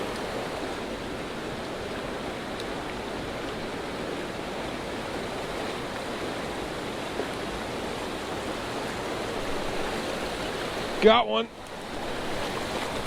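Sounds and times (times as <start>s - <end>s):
creek flowing water: 0.0s - 13.0s.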